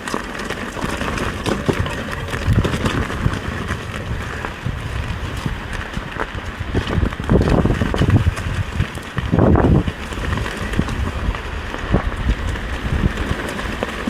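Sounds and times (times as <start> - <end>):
bike knocking and rattling: 0.0 - 14.0
wind on microphone: 0.7 - 14.0.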